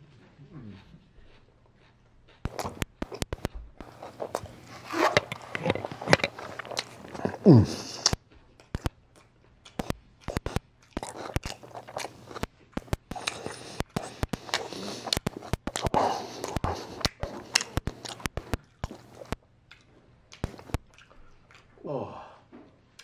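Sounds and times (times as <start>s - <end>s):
close chewing with mouth clicks: 0.1s - 21.8s
food crunching: 1.2s - 21.8s.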